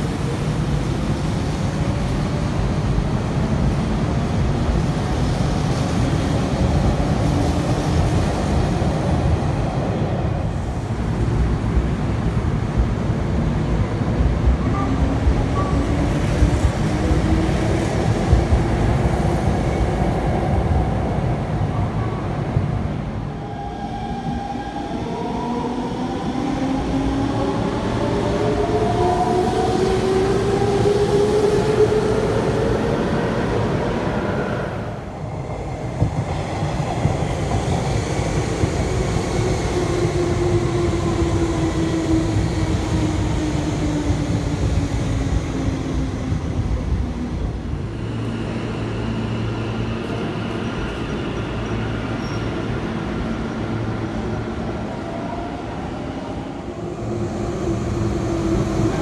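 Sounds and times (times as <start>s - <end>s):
train low hum: 0.0s - 59.0s.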